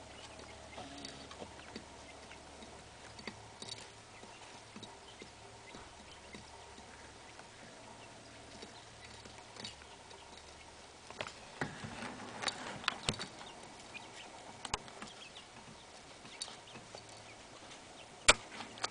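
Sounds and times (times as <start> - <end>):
chicks pecking feed from a dish: 0.0 - 18.9.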